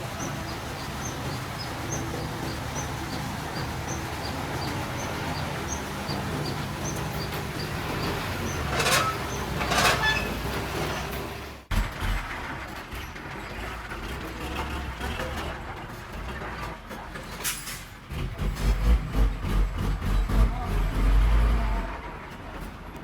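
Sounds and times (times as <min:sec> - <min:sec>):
heavy diesel machinery running: 0:00.0 - 0:23.0.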